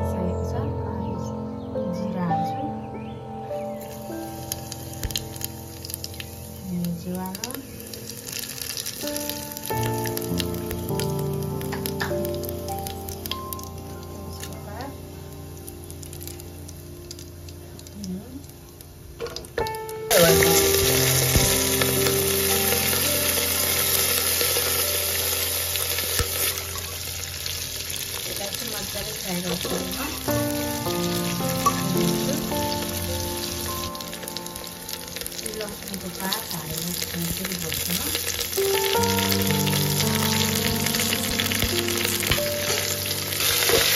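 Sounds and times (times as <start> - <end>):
meat sizzling in hot oil: 3.8 - 18.9, 20.0 - 43.9.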